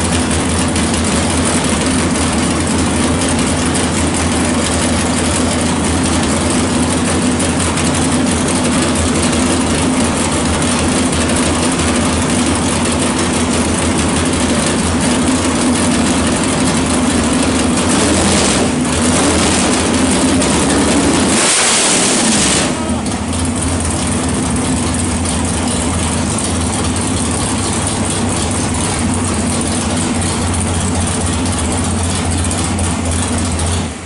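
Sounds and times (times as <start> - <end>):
loud car engine idling: 0.0 - 34.0.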